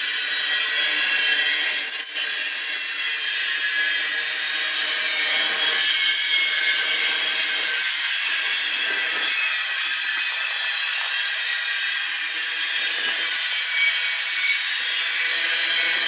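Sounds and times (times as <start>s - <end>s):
train wheels squealing on rails: 0.0s - 16.0s.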